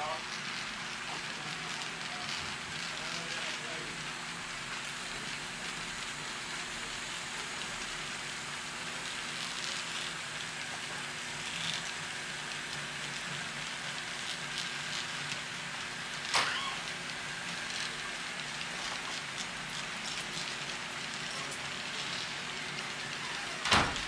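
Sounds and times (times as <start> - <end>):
model train wheels rolling on rail: 0.0 - 24.0.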